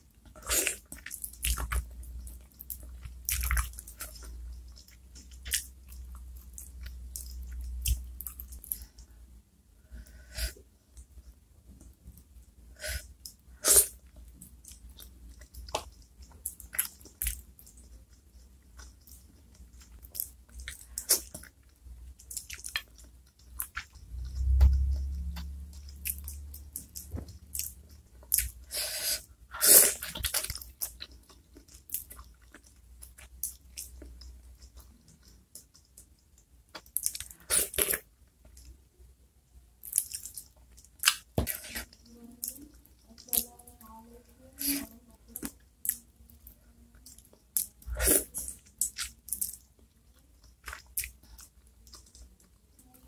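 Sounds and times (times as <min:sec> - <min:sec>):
wet chewing: 0:00.2 - 0:09.0, 0:12.9 - 0:38.7, 0:44.6 - 0:53.0.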